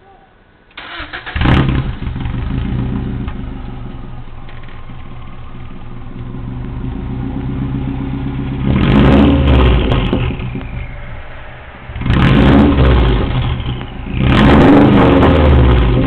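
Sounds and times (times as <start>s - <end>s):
car engine idling: 0.8s - 16.0s
car engine revving: 0.8s - 16.0s.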